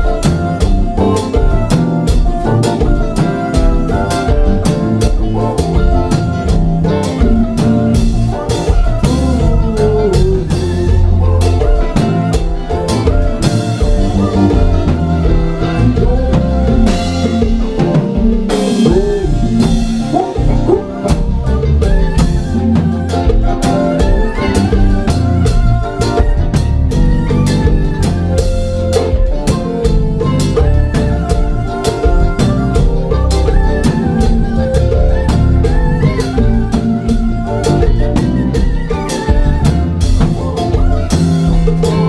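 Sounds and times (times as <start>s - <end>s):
live dance band playing: 0.0s - 42.0s.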